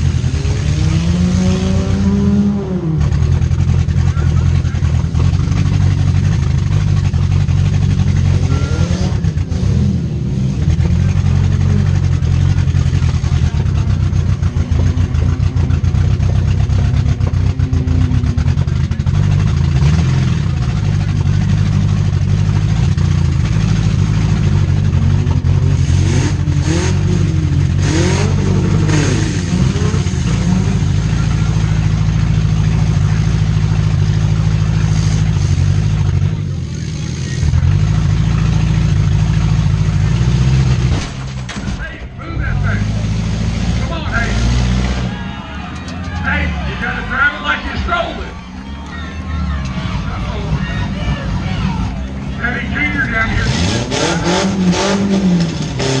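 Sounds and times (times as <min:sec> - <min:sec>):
car engines revving loudly: 0:00.0 - 0:56.0.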